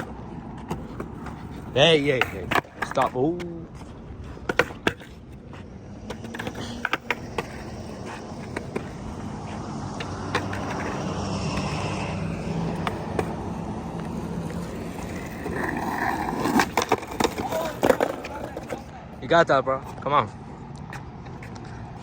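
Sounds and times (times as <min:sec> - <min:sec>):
skateboard clacks: 0:00.0 - 0:18.9
skateboard wheels rolling on pavement: 0:00.0 - 0:22.0.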